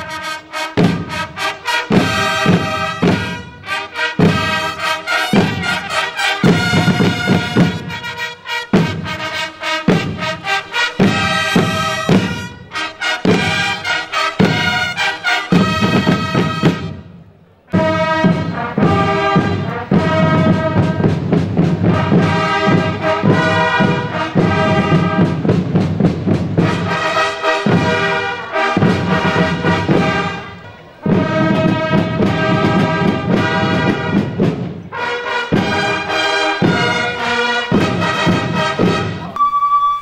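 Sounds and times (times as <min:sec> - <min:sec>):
drums: 0:00.0 - 0:39.5
fanfare trumpets playing march: 0:00.0 - 0:40.0.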